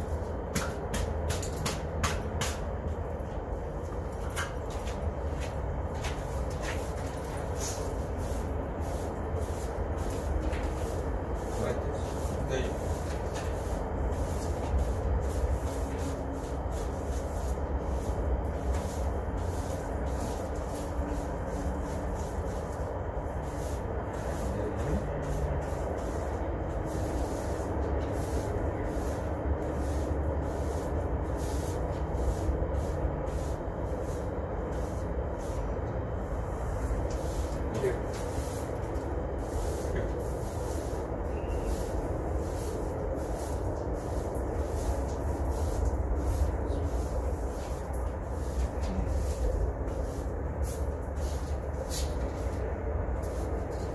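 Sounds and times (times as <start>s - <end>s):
brooms sweeping concrete: 0.0s - 53.9s
steady low rumble: 0.0s - 53.9s.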